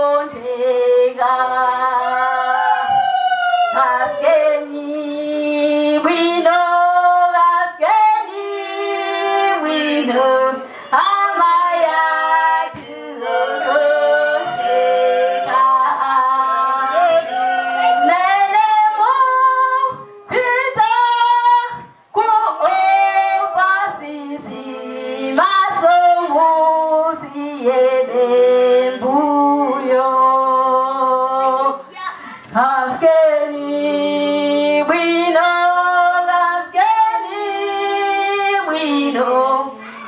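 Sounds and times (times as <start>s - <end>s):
woman singing into microphone: 0.0s - 40.0s.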